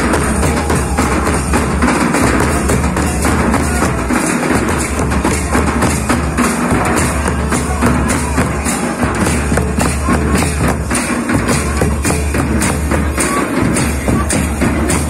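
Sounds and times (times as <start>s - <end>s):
drum ensemble playing: 0.0s - 15.0s.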